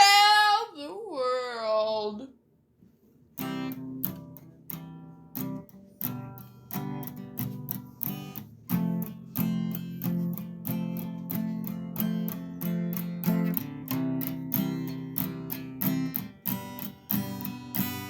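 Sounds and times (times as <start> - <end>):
acoustic guitar strumming chords: 3.4 - 18.0.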